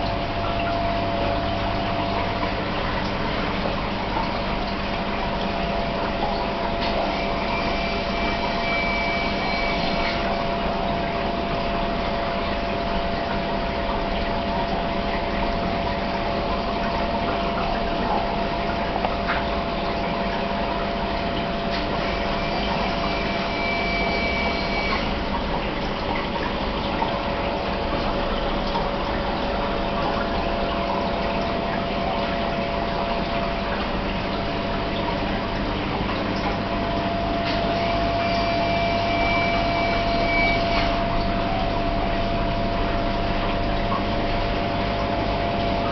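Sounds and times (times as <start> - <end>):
aquarium water trickling: 0.0 - 45.9
pump hum: 0.0 - 45.9.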